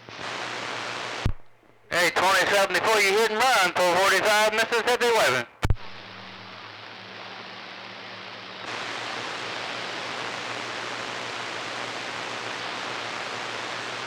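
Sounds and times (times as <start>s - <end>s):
faint steady hum: 0.0s - 14.0s
radio static hiss: 0.0s - 14.0s.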